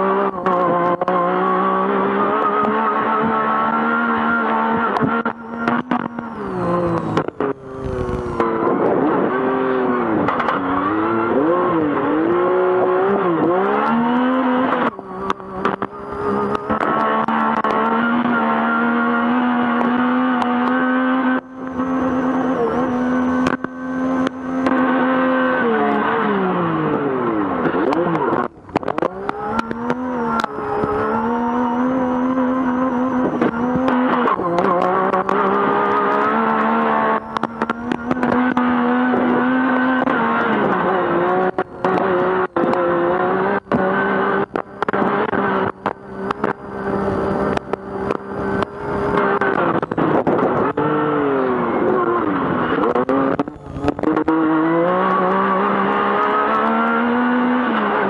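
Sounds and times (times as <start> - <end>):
engine revving at high revs: 0.0 - 58.0.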